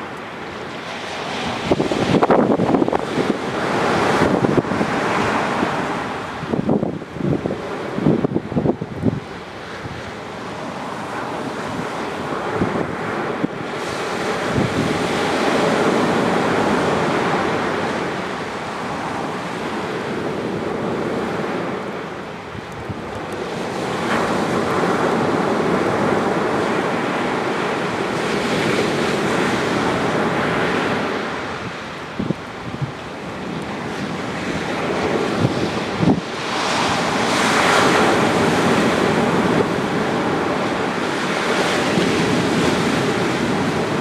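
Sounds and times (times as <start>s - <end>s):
waves breaking on beach: 0.0s - 44.0s
wind buffeting microphone: 0.0s - 44.0s.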